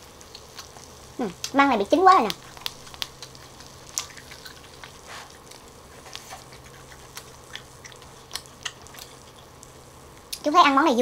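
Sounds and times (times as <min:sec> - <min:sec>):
food sizzling on grill pan: 0:00.0 - 0:11.0
low steady hum: 0:00.0 - 0:11.0
small crackles and pops: 0:00.0 - 0:11.0.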